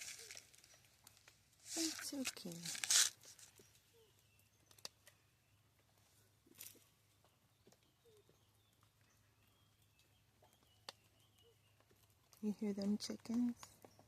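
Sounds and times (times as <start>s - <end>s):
pheasants pecking at seed: 0.0s - 14.0s.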